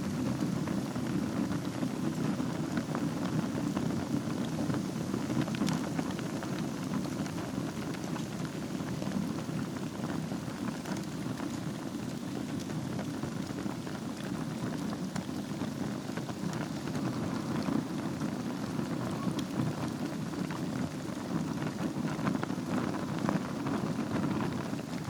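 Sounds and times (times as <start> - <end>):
wood fire burning in fireplace: 0.0 - 25.0.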